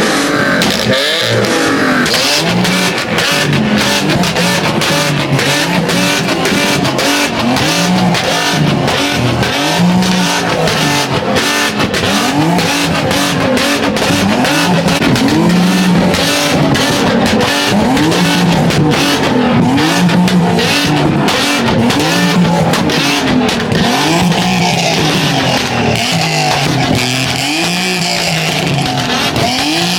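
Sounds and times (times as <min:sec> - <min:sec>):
car engine revving hard: 0:00.0 - 0:29.9.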